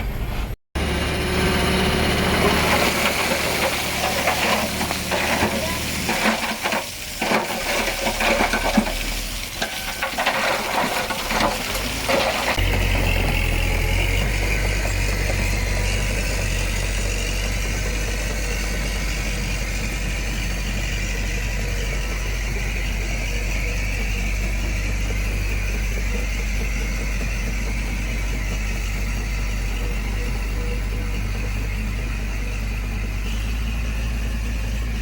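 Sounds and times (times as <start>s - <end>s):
diesel engine running low: 0.0s - 35.0s.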